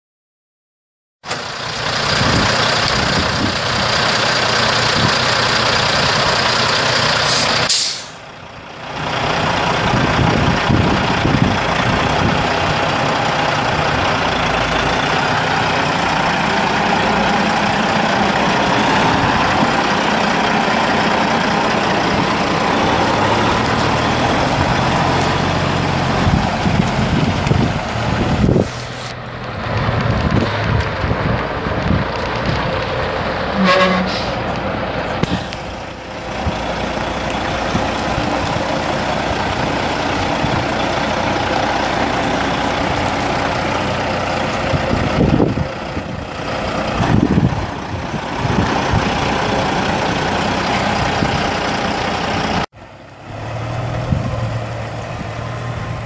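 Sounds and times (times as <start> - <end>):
diesel truck engine idling: 1.3 - 56.0.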